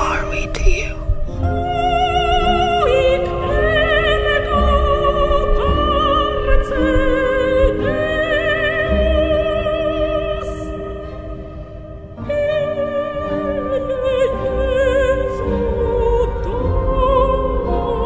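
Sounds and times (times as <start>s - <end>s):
slow melody with vibrato: 0.0s - 18.0s.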